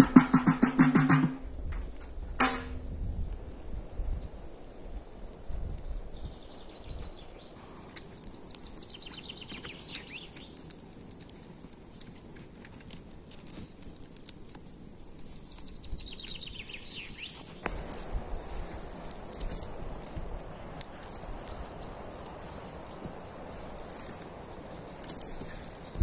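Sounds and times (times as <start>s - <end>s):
small birds chirping: 2.0s - 26.0s.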